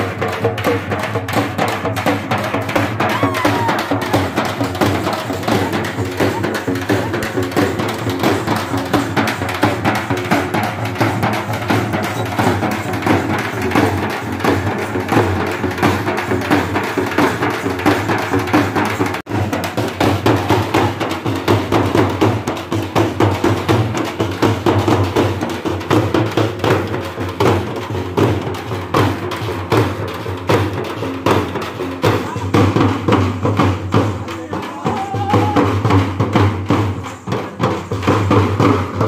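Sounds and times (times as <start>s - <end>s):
frame drums beaten with sticks: 0.0s - 39.0s.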